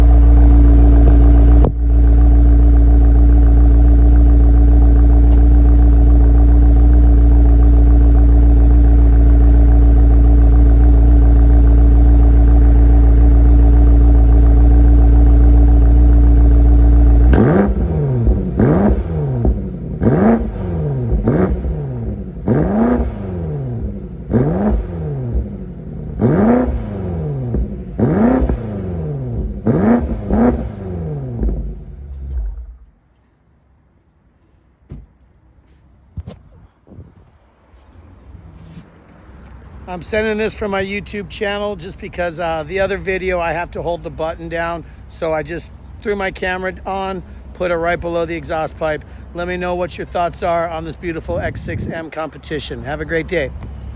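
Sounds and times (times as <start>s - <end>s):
car exhaust running steadily: 0.0s - 33.2s, 39.1s - 53.9s
engine throttle blips: 0.0s - 33.4s, 37.1s - 53.9s.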